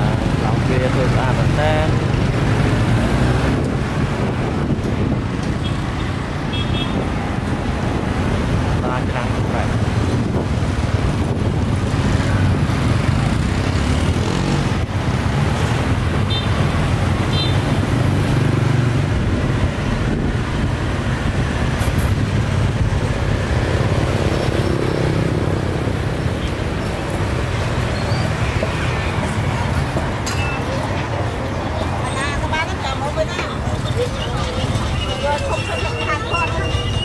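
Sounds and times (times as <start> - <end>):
passing vehicle engines: 0.0 - 37.0.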